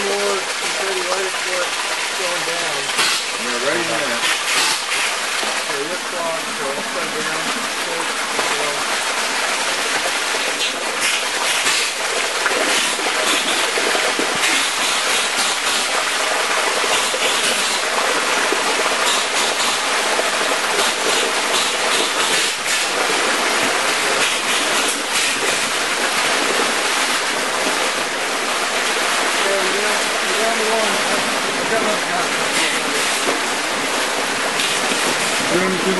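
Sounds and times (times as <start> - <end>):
muddy water rushing: 0.0 - 35.9.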